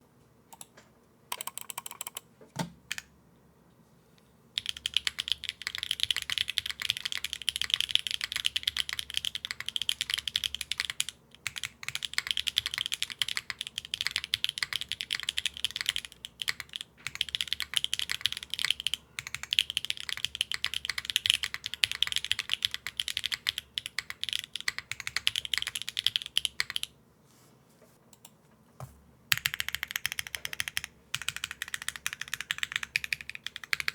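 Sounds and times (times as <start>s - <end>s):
mechanical keyboard typing: 1.3s - 2.2s, 4.6s - 26.9s, 29.3s - 33.9s.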